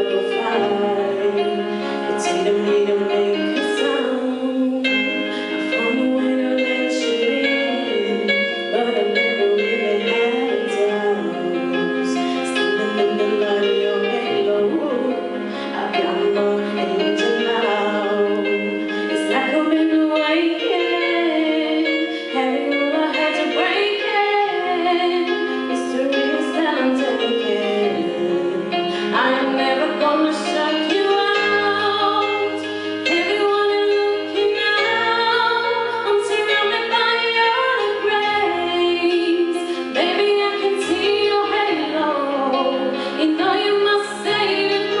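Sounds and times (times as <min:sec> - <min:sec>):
woman singing with vibrato: 0:00.0 - 0:45.0.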